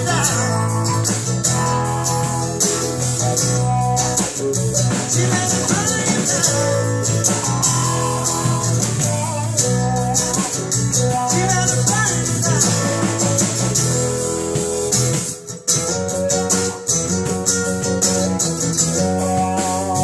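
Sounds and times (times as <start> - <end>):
electric guitars: 0.0 - 20.0
strummed acoustic guitar: 0.0 - 20.0.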